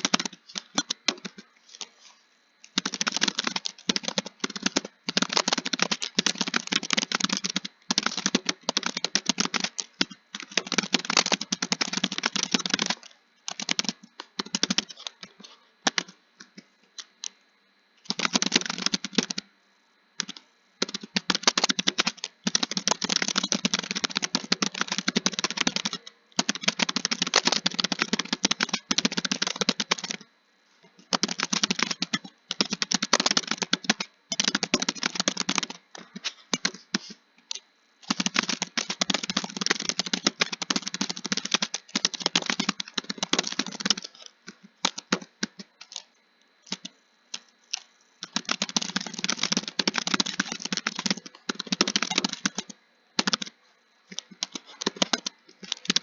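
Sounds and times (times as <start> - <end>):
fast keyboard typing: 0.0 - 1.5, 2.7 - 16.2, 18.0 - 19.5, 20.2 - 30.3, 31.0 - 56.0.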